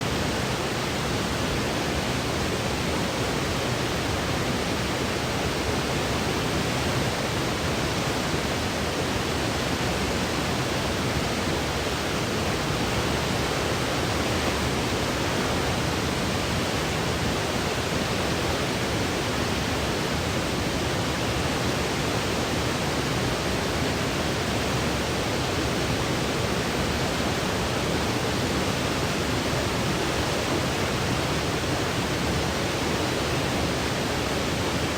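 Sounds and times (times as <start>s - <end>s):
synthetic white noise hiss: 0.0s - 34.9s.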